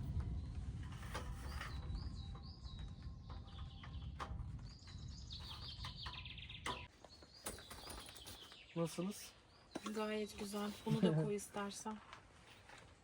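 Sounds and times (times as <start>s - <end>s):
songbird chirping: 1.3s - 12.9s.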